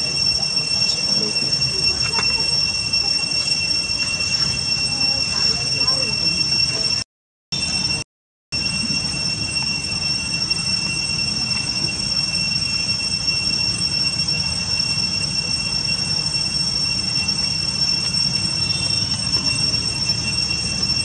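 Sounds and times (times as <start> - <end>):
high-pitched two-tone drone: 0.0 - 7.0, 7.6 - 8.0, 8.6 - 21.0.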